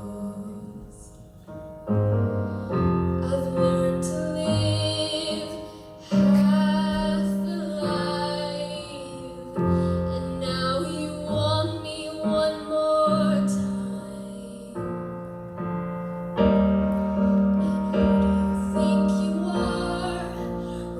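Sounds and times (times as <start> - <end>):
woman singing a ballad: 0.0 - 1.2, 3.2 - 15.1, 17.3 - 20.9
piano chords: 0.0 - 20.9.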